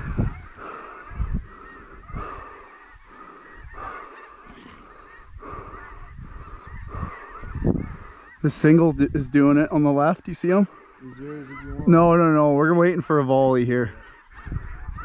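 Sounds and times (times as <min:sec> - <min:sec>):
geese honking chorus: 0:00.0 - 0:15.0.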